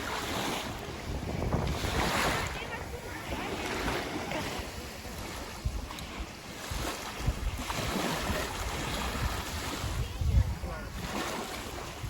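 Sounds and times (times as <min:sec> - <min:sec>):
sea waves: 0:00.0 - 0:12.0
wind buffeting microphone: 0:00.0 - 0:12.0.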